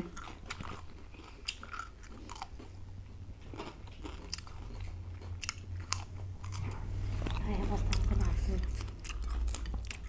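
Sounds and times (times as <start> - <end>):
cucumber crunching: 0.0 - 2.8, 3.5 - 10.0
quiet chewing: 0.0 - 10.0.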